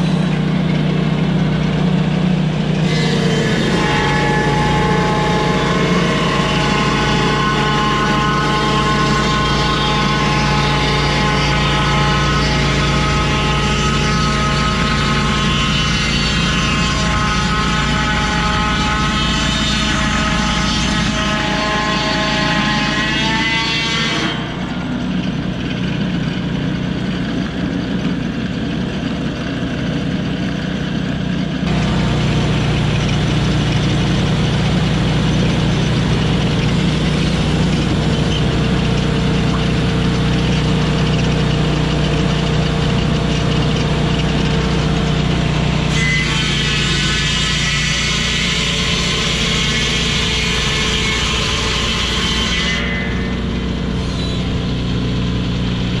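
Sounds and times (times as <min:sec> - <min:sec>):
petrol engine running: 0:00.0 - 0:23.0, 0:24.0 - 0:45.9, 0:53.0 - 0:56.0
circular saw blade whining through log: 0:00.0 - 0:56.0.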